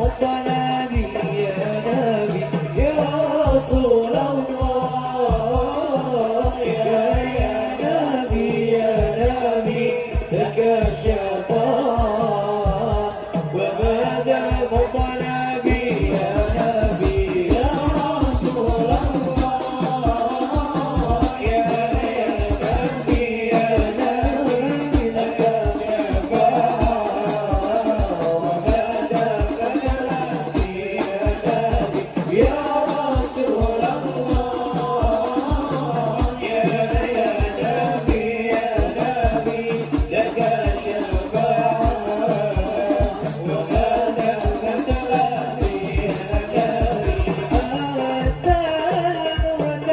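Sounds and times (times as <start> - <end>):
frame drums beat: 0.0 - 49.9
men singing together: 0.0 - 49.9
rattling percussion shaker: 0.0 - 49.9.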